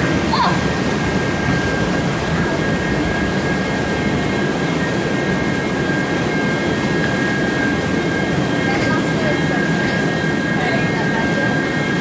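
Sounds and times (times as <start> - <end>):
conveyor lift mechanical drone: 0.0 - 12.0
high whine: 0.0 - 12.0.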